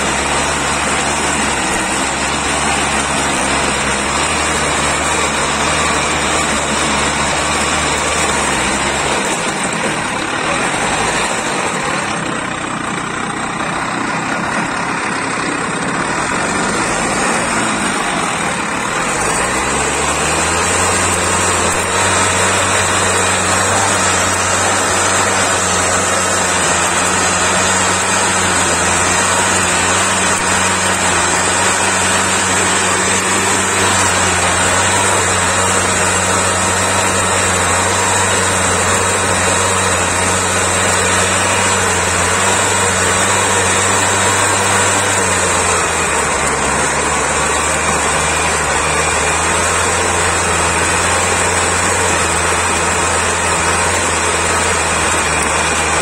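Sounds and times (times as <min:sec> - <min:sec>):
tiller engine running under load: 0:00.0 - 0:56.0.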